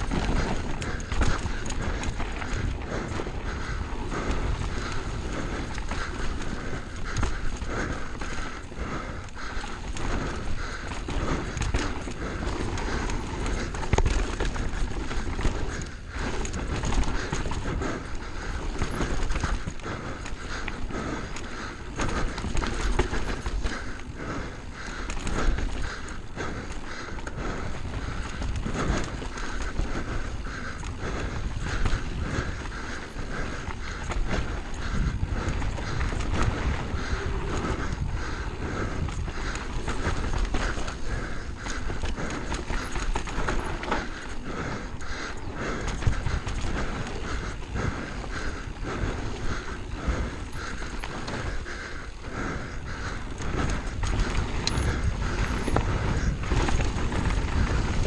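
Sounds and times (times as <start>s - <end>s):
mountain bike rattling over rocks: 0.0s - 58.0s.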